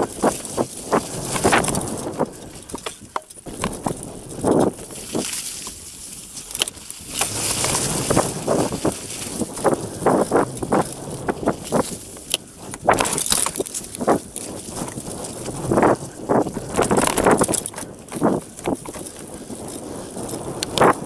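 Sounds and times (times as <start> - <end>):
bike rattling over bumps: 0.0 - 21.0
tyres crunching over dirt and leaves: 0.0 - 21.0.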